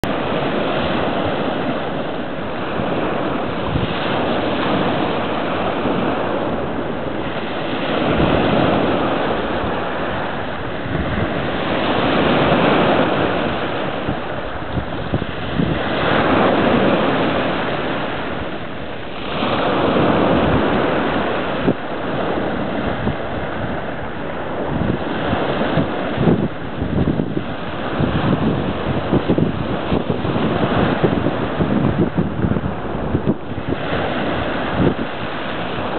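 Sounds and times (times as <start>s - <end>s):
small waves breaking on shore: 0.0s - 35.9s.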